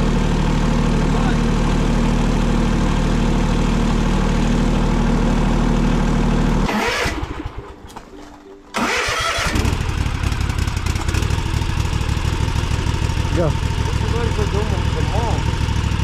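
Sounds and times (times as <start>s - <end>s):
machine engine idling: 0.0s - 16.0s.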